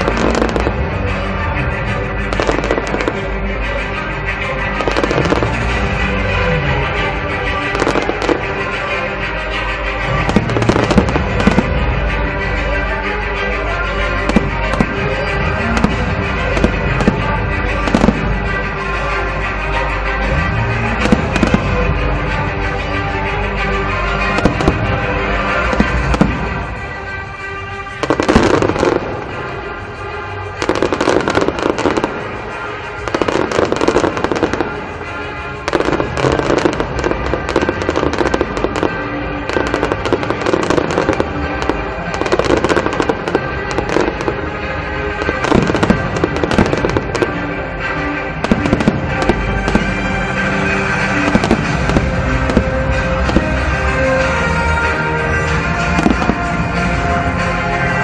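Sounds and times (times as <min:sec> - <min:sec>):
fireworks bursting and crackling: 0:00.0 - 0:58.0
music: 0:00.0 - 0:58.0.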